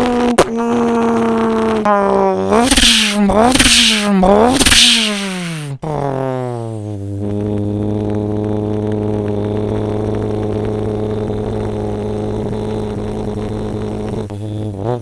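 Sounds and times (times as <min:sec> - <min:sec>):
man imitating engine with voice: 0:00.0 - 0:15.0.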